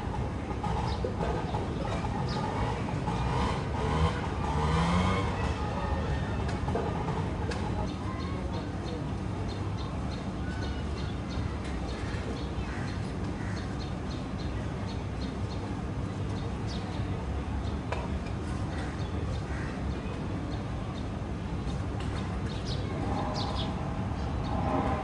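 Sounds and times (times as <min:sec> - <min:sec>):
low steady rumble: 0:00.0 - 0:25.0
small birds chirping: 0:00.6 - 0:03.5, 0:07.5 - 0:25.0.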